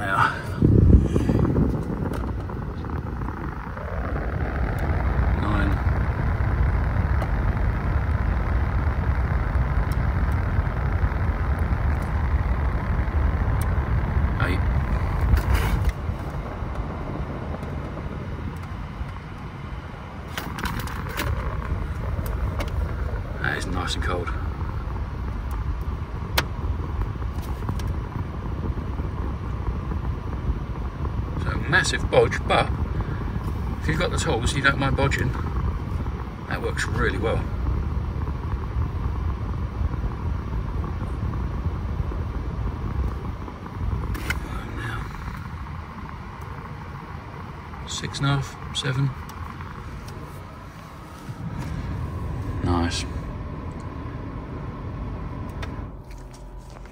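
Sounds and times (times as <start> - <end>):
car air conditioning blowing: 0.0 - 56.9.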